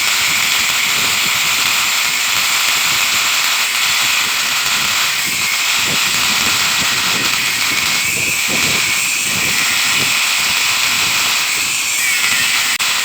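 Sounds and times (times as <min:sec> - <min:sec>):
power tool working steel: 0:00.0 - 0:13.0.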